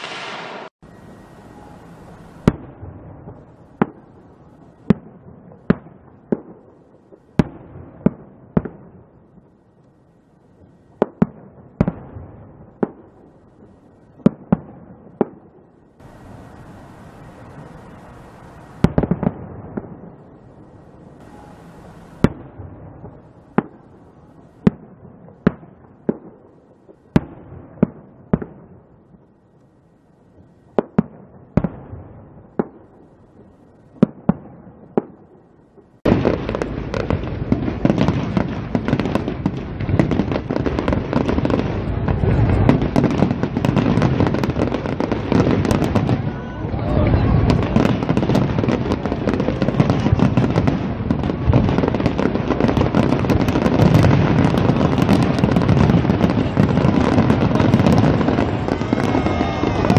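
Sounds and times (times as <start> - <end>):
fireworks bangs: 0.0 - 9.8, 10.4 - 29.4, 30.3 - 59.9
dense continuous fireworks: 0.0 - 59.9.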